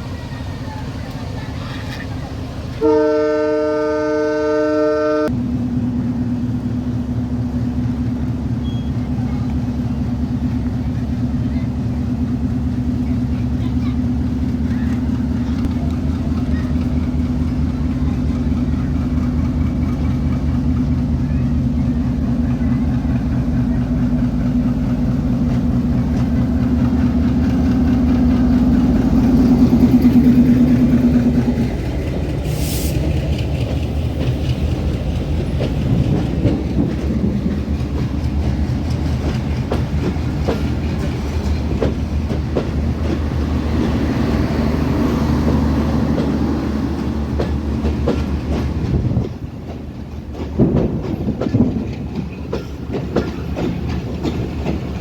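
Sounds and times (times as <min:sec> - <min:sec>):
diesel locomotive engine hum: 0:00.0 - 0:55.0
train wheels clattering over rail joints: 0:07.5 - 0:55.0.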